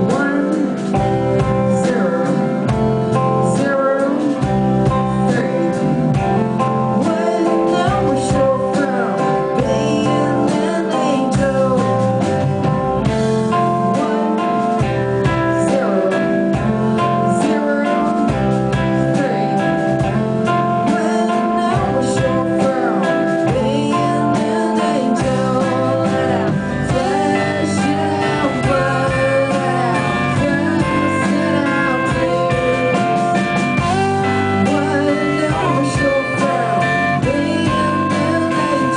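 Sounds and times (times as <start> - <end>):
guitar playing: 0.0 - 38.9
live band music: 0.0 - 38.9.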